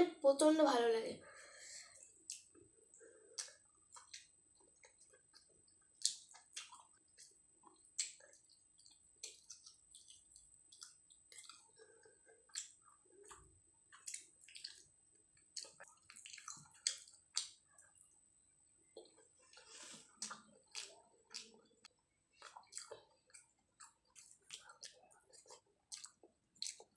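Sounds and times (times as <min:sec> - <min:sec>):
person chewing food: 0:01.4 - 0:26.9.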